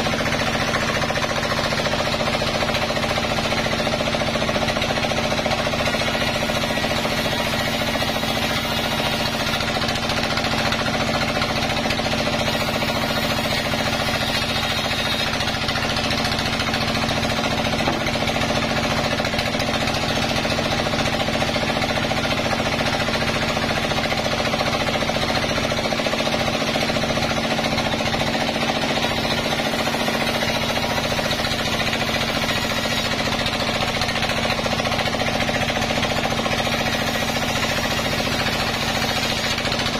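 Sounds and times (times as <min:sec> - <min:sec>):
band saw cutting logs: 0:00.0 - 0:39.9.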